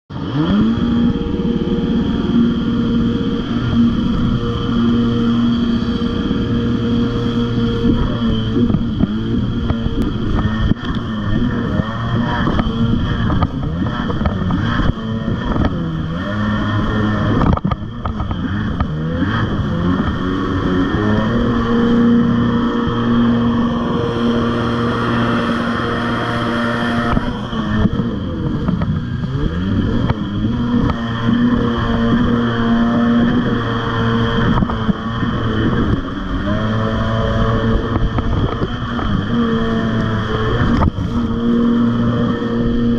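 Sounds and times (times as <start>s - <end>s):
jet ski engine running: 0.1s - 42.9s
water spray rushing: 0.2s - 42.9s.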